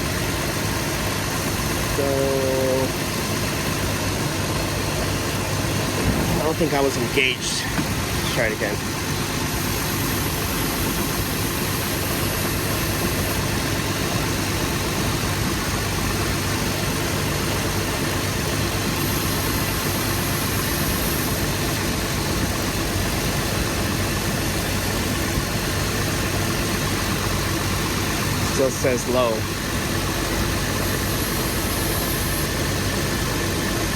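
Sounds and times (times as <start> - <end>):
air conditioning running: 0.0 - 33.9
car engine idling: 0.0 - 33.9.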